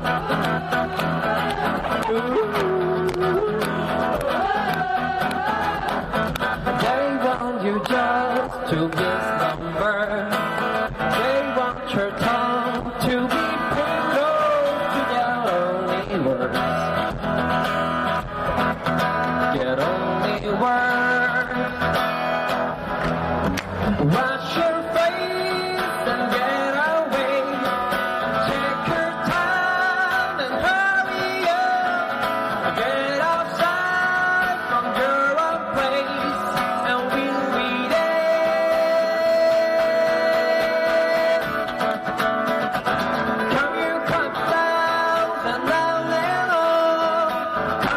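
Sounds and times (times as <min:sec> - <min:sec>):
person singing with vibrato: 0:00.0 - 0:17.6, 0:19.4 - 0:22.3, 0:23.9 - 0:42.5, 0:43.1 - 0:47.9
guitar accompaniment: 0:00.0 - 0:47.9.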